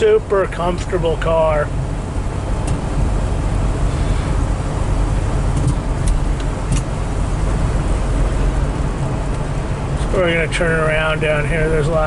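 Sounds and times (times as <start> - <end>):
car cabin road and engine noise: 0.0 - 12.0.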